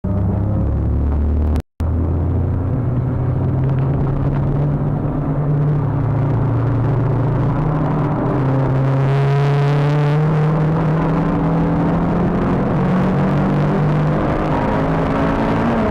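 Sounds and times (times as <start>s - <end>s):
car engine under load: 0.1s - 15.9s.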